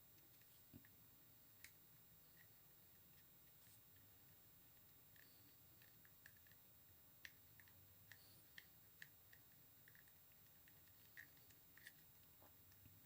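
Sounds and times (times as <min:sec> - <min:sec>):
small clicks of modelling tools: 0:00.1 - 0:06.6, 0:07.2 - 0:13.0.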